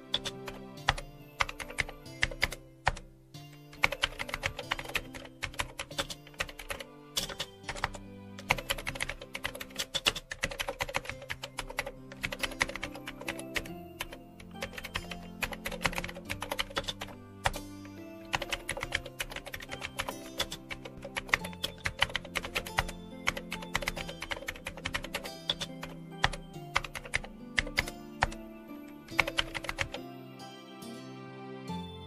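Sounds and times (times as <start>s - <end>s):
keyboard typing: 0.0s - 30.1s
soft background music: 0.0s - 32.0s.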